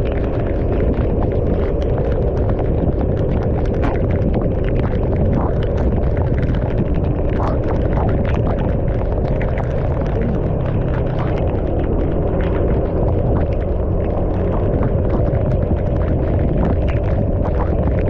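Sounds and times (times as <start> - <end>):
raindrops ticking on camera: 0.0 - 18.0
wind buffeting microphone: 0.0 - 18.0.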